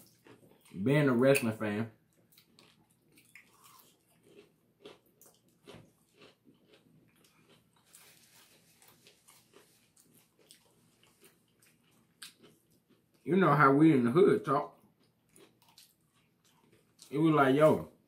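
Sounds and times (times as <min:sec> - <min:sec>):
chewing fried food: 0:00.0 - 0:01.1, 0:02.0 - 0:13.4, 0:14.6 - 0:17.5.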